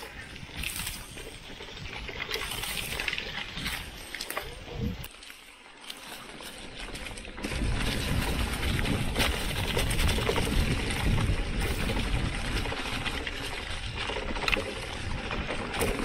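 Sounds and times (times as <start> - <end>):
wind rush on microphone: 0.0 - 5.1, 7.4 - 16.0
bike tyres rolling on dirt: 0.0 - 16.0
crackles and knocks from bumps: 0.0 - 16.0.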